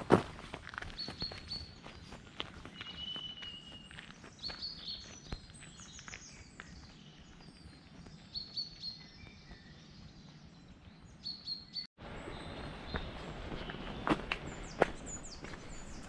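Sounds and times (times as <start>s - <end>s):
small birds singing: 0.8s - 16.0s.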